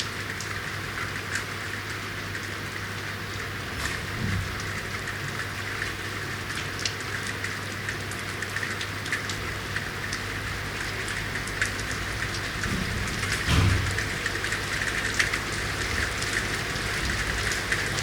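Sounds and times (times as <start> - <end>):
raindrops tapping on hard surfaces: 0.0 - 18.0.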